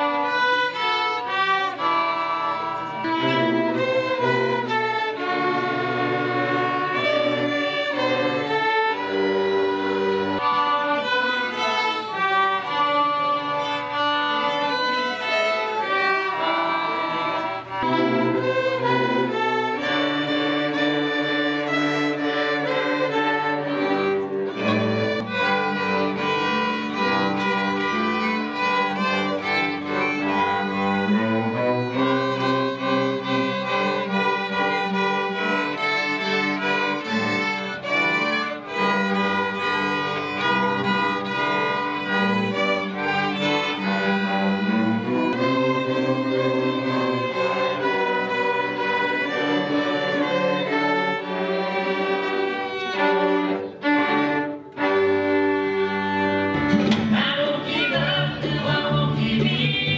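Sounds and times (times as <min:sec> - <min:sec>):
violins and cellos playing: 0:00.0 - 0:59.9.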